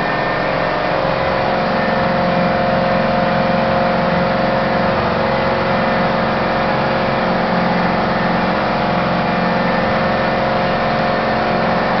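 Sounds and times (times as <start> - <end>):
motorboat engine hum: 0.0 - 12.0.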